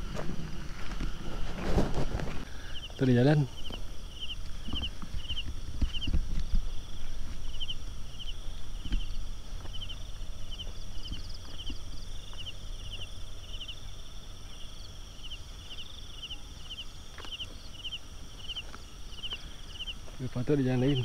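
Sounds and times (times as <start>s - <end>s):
cricket chirping: 0.0s - 21.0s
high buzz of insects: 0.0s - 21.0s.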